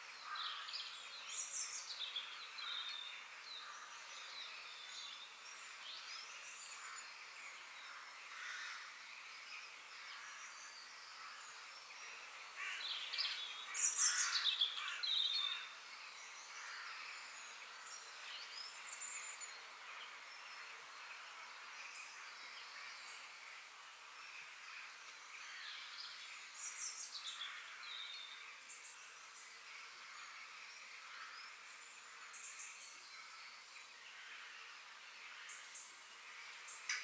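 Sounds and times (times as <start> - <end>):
songbirds chirping and calling: 0.0 - 37.0.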